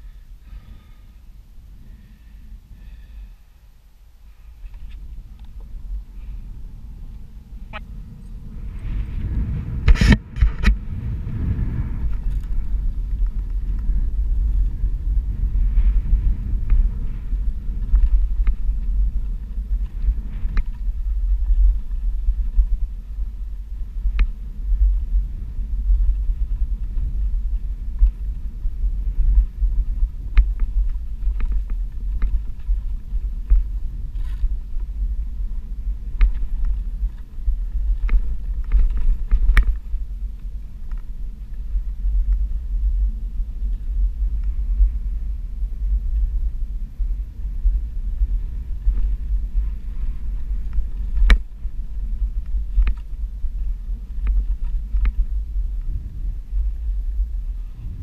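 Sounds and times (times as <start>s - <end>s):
electric board rumbling on dirt: 4.7s - 58.0s.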